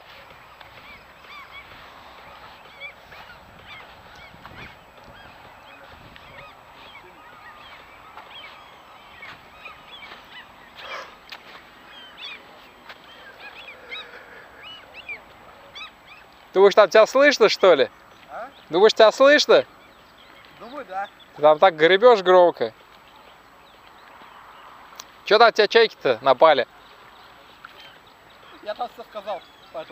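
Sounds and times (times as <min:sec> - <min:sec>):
gulls calling: 0:00.0 - 0:29.9.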